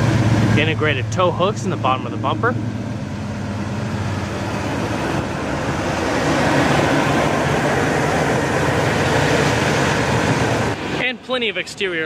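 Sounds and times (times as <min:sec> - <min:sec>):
broad rushing noise: 0:00.0 - 0:12.0
truck engine idling: 0:00.0 - 0:12.0.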